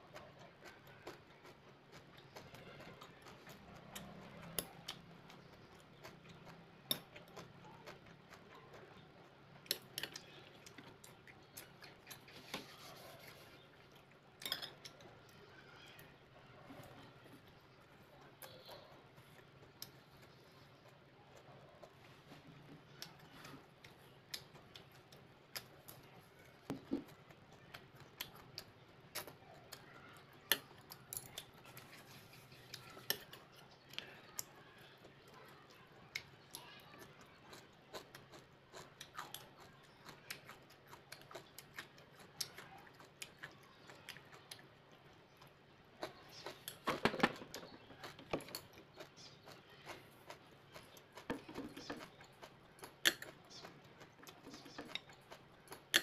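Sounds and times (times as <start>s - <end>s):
soft chewing: 0.0s - 56.0s.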